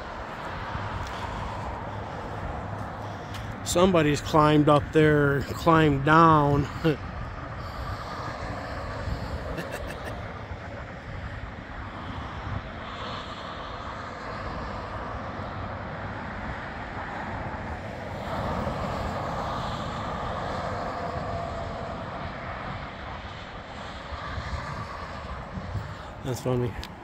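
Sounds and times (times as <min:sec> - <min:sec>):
highway traffic rushing past: 0:00.0 - 0:27.0.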